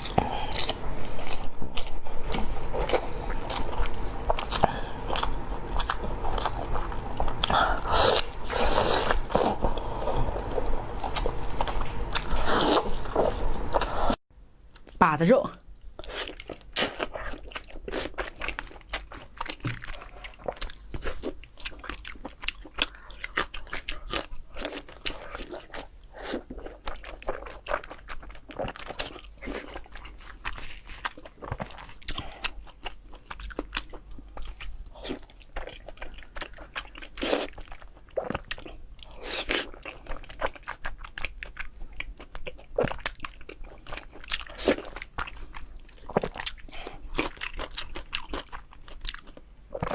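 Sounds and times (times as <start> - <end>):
person chewing meat: 0.0 - 14.9, 15.8 - 49.9.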